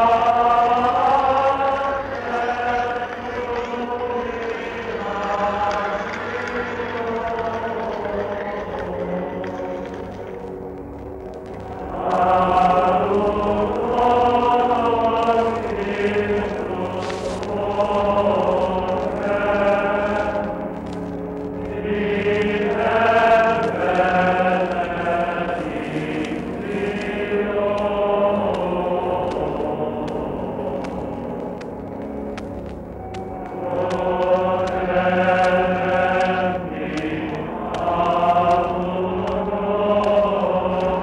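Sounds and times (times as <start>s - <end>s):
choir singing a slow chant: 0.0s - 10.6s, 11.5s - 41.0s.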